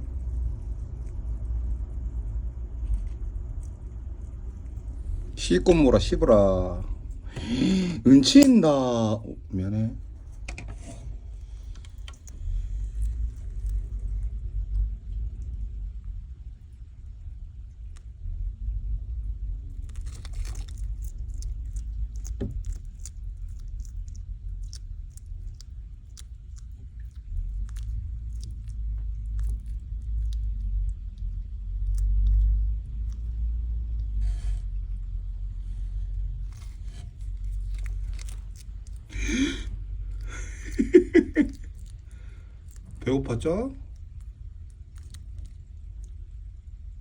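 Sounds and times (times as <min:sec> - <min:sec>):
lizard crunching mealworms: 0:00.0 - 0:14.6, 0:19.6 - 0:46.8
low rumble: 0:00.0 - 0:47.0.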